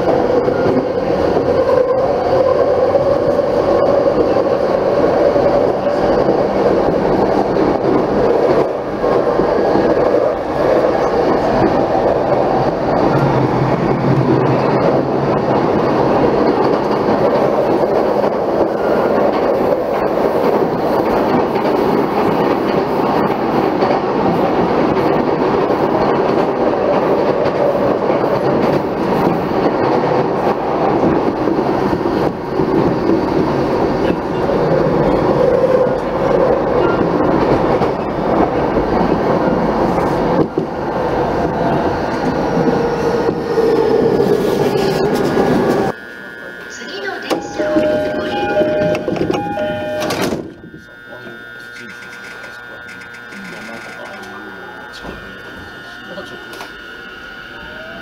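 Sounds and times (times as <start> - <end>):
train wheels rumbling on rail: 0.0 - 46.0, 46.9 - 55.4.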